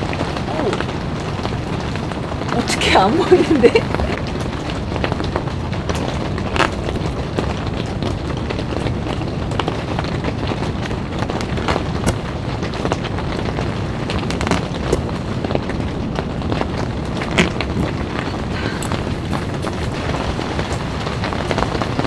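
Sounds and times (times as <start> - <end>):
rain on tent fabric: 0.0 - 22.0.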